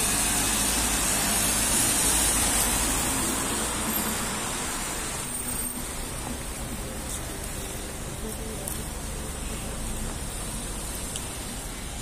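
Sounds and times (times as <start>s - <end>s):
car tyres hissing on wet road: 0.0s - 12.0s.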